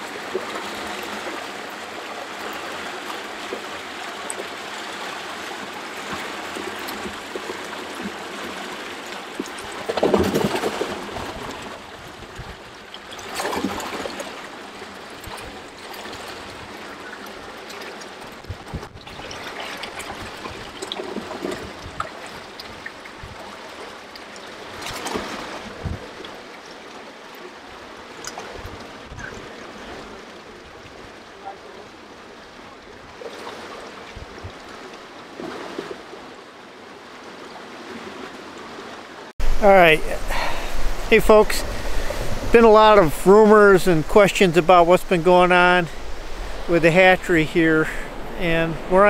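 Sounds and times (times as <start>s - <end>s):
water rushing over weir: 0.0s - 49.0s.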